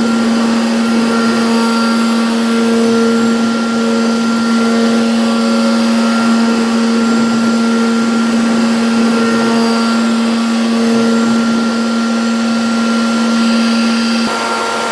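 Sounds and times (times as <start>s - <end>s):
router spindle whining: 0.0s - 14.9s.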